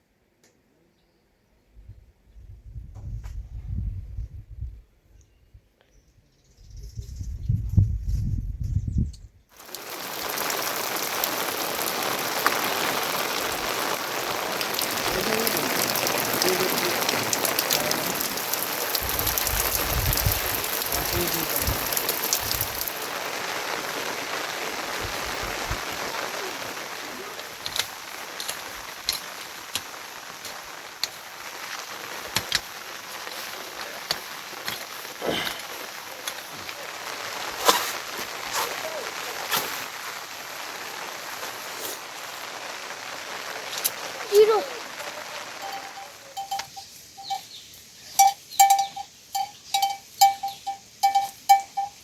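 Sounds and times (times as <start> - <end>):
heavy rain falling: 9.5 - 52.0
sharp raindrops: 9.5 - 52.0.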